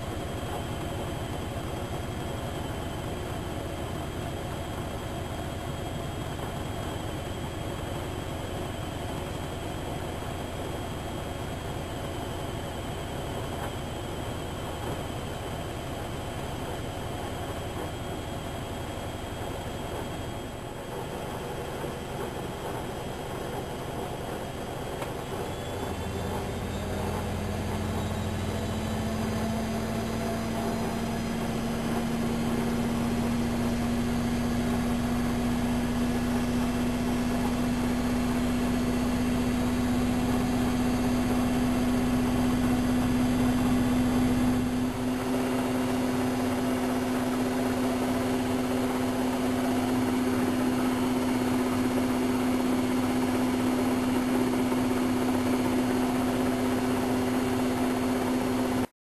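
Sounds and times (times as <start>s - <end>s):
washing machine motor whine: 0.0s - 58.9s.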